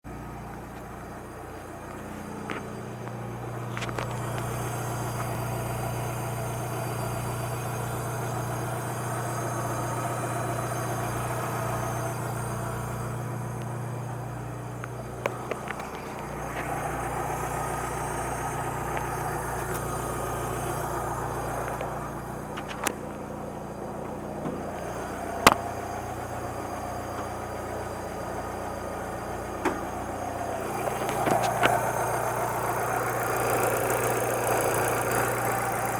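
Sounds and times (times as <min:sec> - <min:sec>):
car engine humming: 0:00.0 - 0:35.9
sharp engine clicks: 0:00.1 - 0:35.9.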